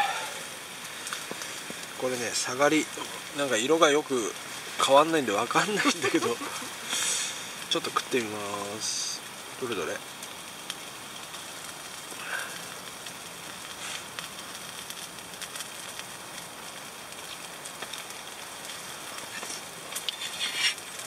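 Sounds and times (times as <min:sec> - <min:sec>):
coals crackling: 0:00.0 - 0:21.0
meat sizzling on a grill: 0:00.0 - 0:21.0.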